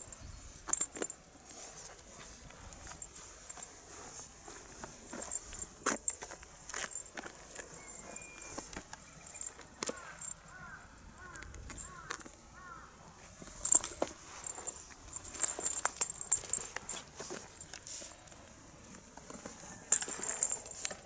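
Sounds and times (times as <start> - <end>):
kittens' paws scrabbling on gravel: 0.0 - 21.0.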